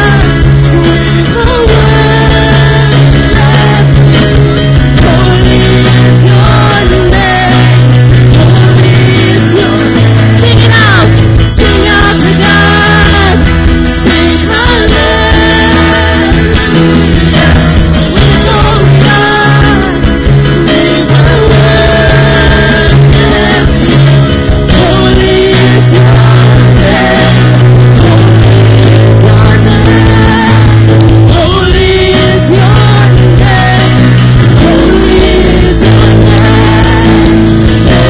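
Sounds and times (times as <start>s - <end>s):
bass long notes: 0.0s - 38.0s
drums: 0.0s - 38.0s
electric guitar: 0.0s - 38.0s
slow worship song: 0.0s - 38.0s.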